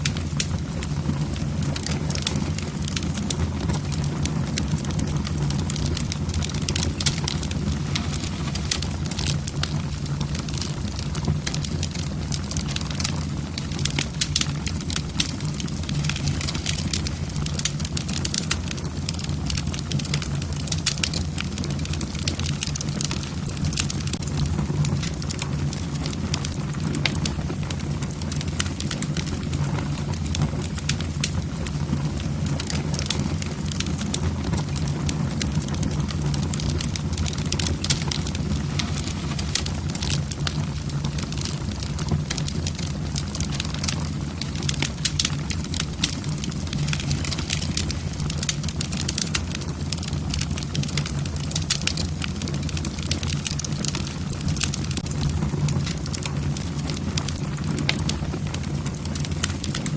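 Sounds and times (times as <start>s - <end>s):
logs crackling and popping: 0.0s - 59.9s
low rush of flame: 0.0s - 59.9s.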